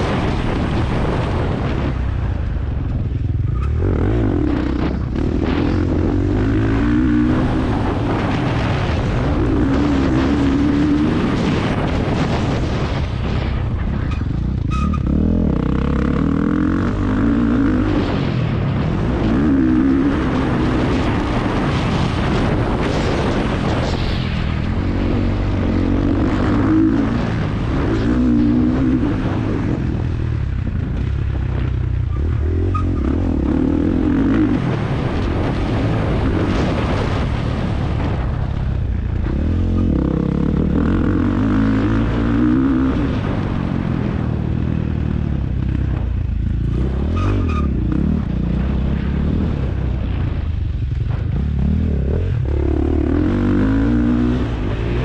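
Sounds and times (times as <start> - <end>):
motocross bike engine revving: 3.2 - 13.4, 14.1 - 23.9, 24.6 - 38.1, 39.1 - 49.8, 51.2 - 55.0.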